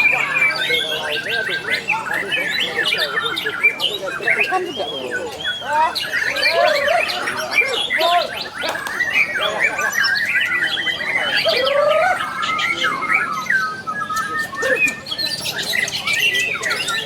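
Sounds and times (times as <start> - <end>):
bird singing varied whistles: 0.0 - 17.0.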